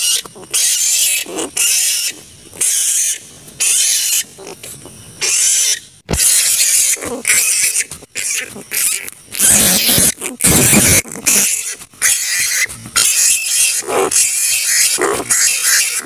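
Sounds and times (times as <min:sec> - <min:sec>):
fruit bats screeching: 0:00.0 - 0:16.0.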